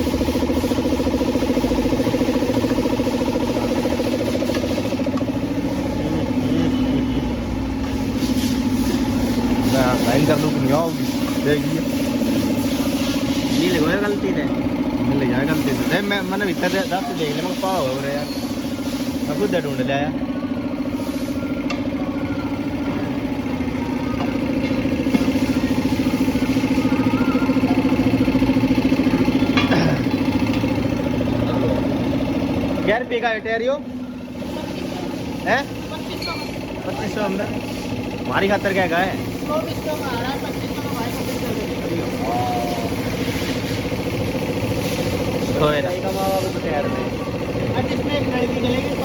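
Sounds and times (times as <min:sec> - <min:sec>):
engine idling: 0:00.0 - 0:49.0.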